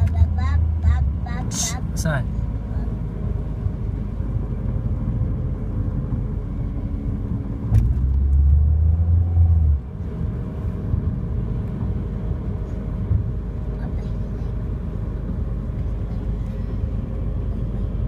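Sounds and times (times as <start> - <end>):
car engine whine: 0.0 - 18.0
low engine rumble: 0.0 - 18.0.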